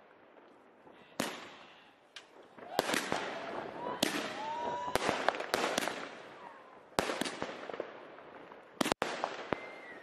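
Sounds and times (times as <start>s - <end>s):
crackle and hiss of fireworks: 0.0s - 10.0s
fireworks bangs: 0.0s - 10.0s.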